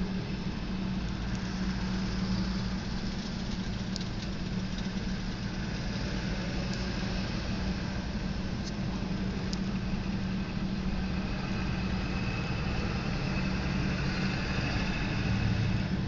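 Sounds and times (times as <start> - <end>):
car engine idling: 0.0 - 16.0
freight train rumbling past: 0.0 - 16.0.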